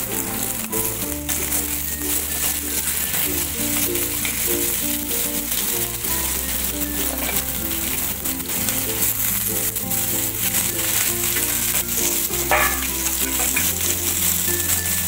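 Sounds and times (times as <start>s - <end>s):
music with bass line: 0.0s - 15.0s
vegetables sizzling in oil: 0.0s - 15.0s.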